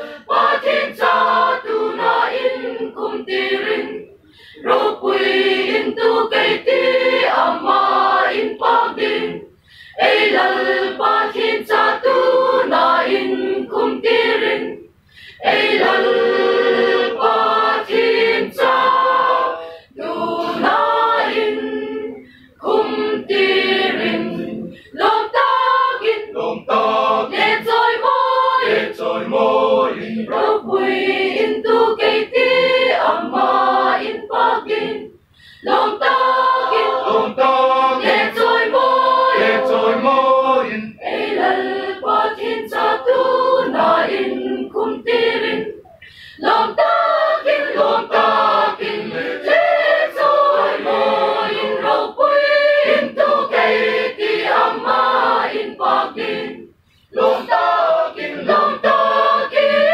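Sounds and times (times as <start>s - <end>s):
mixed choir singing unaccompanied: 0.0s - 59.9s.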